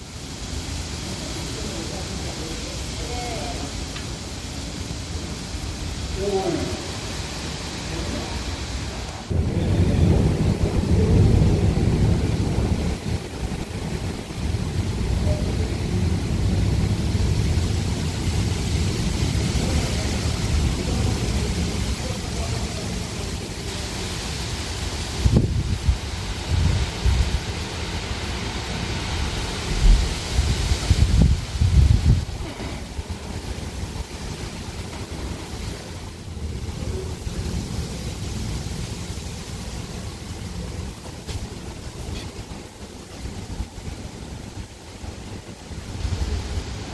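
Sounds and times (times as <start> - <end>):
rain: 0.0 - 46.9
wind: 0.0 - 46.9
low thunder rumble: 4.9 - 28.1, 28.7 - 46.9.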